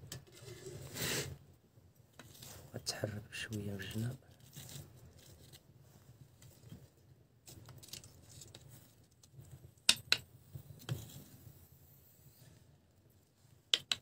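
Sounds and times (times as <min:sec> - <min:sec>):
faint wood fire crackling: 0:00.0 - 0:14.0.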